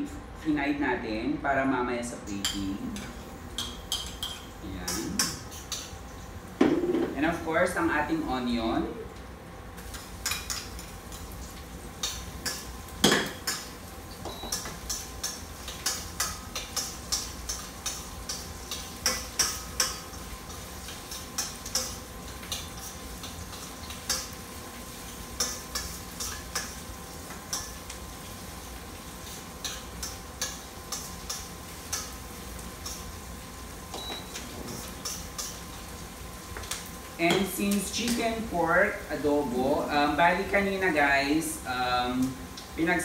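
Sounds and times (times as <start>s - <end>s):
faint frying sizzle: 0.0s - 43.0s.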